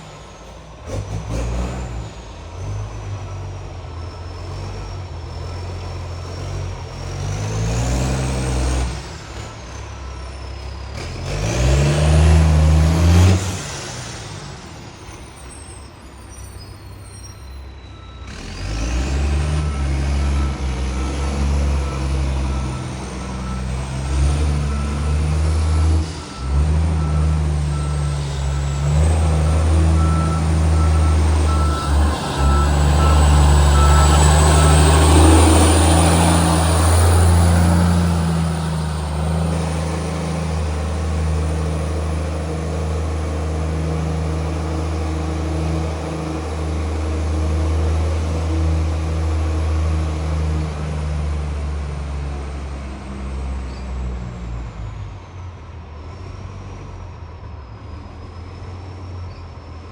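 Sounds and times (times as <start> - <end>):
loud diesel truck engine: 0.0 - 59.9
reversing beeper: 1.8 - 51.4.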